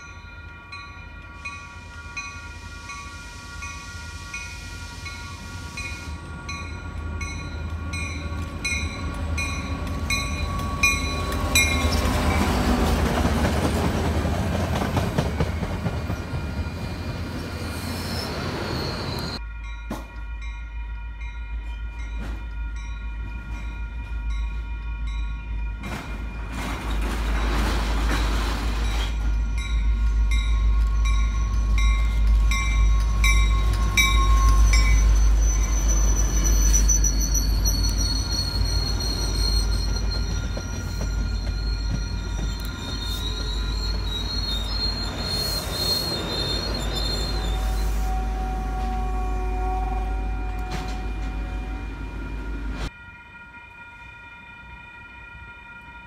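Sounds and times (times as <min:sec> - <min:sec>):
train rumble: 0:00.0 - 0:53.0
train wheels squealing on rails: 0:01.3 - 0:20.3, 0:21.7 - 0:52.9.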